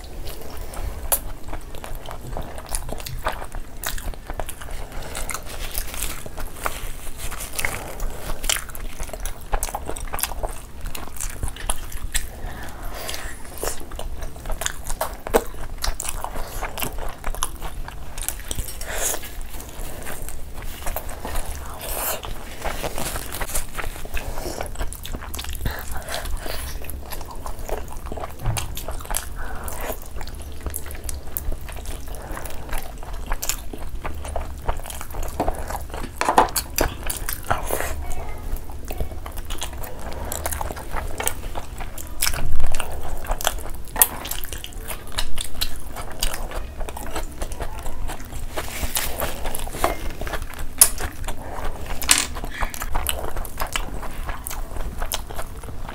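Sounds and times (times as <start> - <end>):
people chewing and smacking: 0.0 - 55.9.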